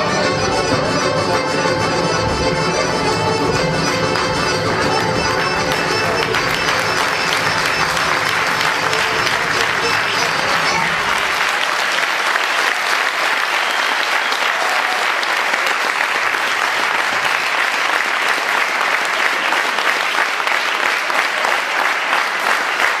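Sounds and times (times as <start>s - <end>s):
audience applauding: 2.5s - 23.0s.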